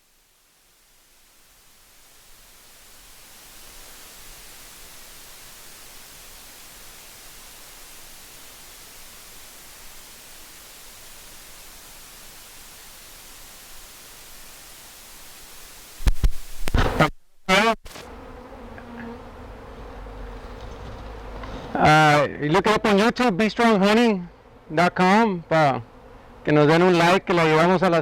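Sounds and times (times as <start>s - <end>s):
steady hiss: 0.0s - 18.1s, 21.6s - 28.0s.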